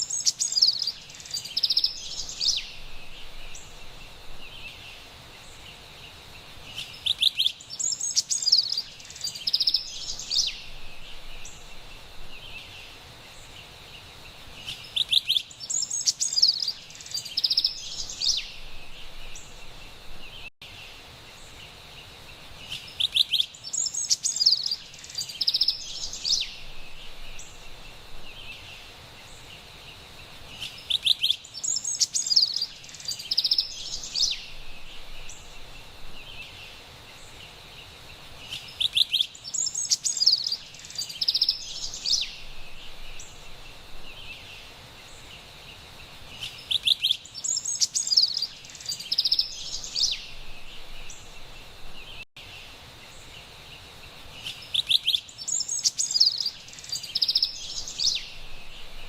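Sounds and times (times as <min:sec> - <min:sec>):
wren singing: 0:00.0 - 0:05.7, 0:06.6 - 0:13.6, 0:14.6 - 0:20.5, 0:22.6 - 0:37.5, 0:38.4 - 0:45.5, 0:46.3 - 0:52.5, 0:54.3 - 0:59.0
faint high background hiss: 0:00.0 - 0:59.0.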